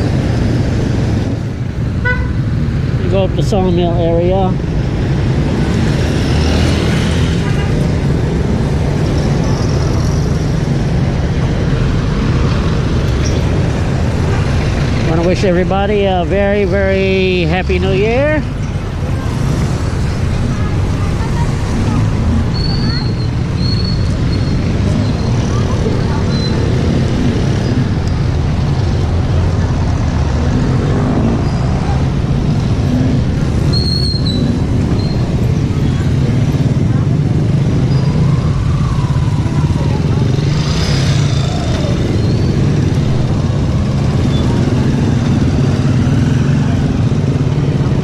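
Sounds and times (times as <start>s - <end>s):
street traffic rumble: 0.0s - 48.0s.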